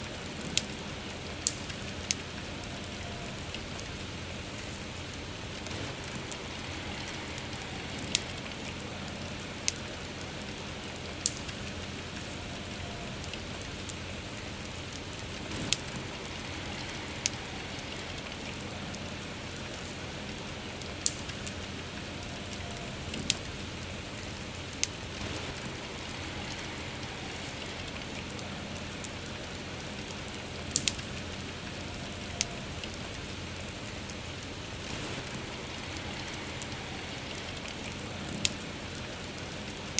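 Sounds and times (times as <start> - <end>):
campfire crackling and popping: 0.0 - 39.9
rain hissing: 0.0 - 39.9.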